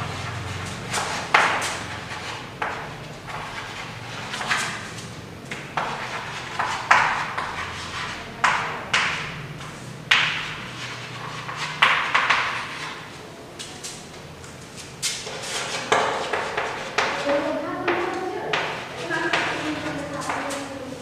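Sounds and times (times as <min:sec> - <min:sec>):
chalk tapping and scratching on blackboard: 0:00.0 - 0:21.0.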